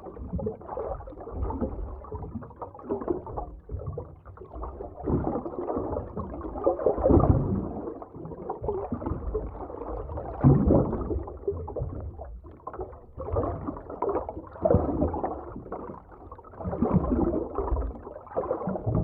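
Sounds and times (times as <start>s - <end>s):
underwater water rumble and gurgle: 0.0s - 19.0s.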